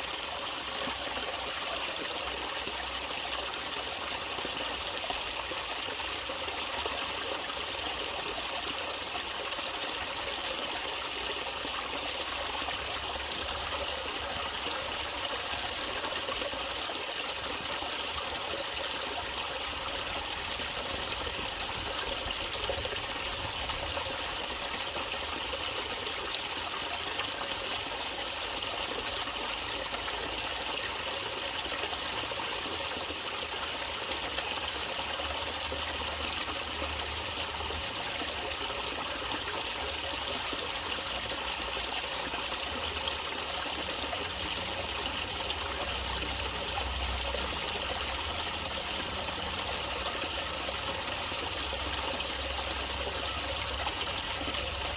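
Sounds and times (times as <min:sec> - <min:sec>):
stream flowing and trickling: 0:00.0 - 0:54.9.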